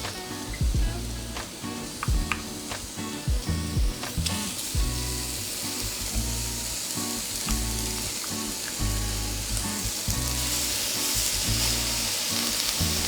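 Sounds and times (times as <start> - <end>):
bacon sizzling in a pan: 0.0 - 13.0.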